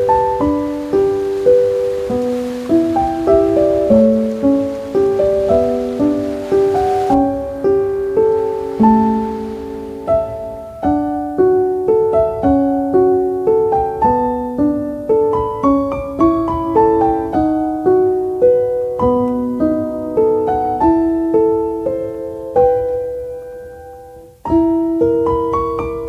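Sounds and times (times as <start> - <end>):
gentle solo piano melody: 0.0 - 26.0.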